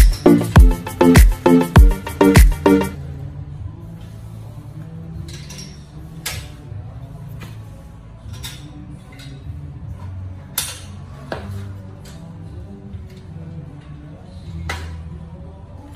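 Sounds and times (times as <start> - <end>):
quiet background music: 0.0 - 15.9.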